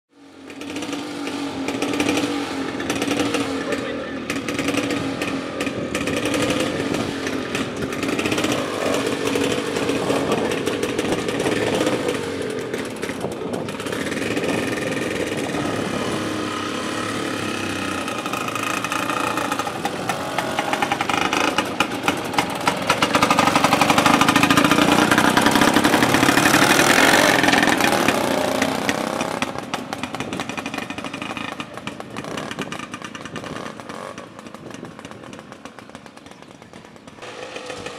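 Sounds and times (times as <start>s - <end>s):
motorcycle engines revving: 0.1s - 37.9s.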